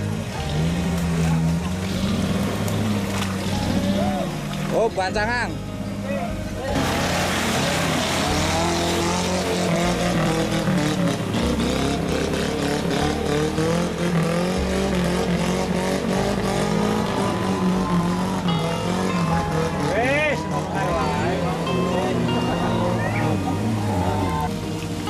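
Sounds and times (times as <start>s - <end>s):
vehicle engine revving hard: 0.0s - 4.3s, 6.7s - 25.0s.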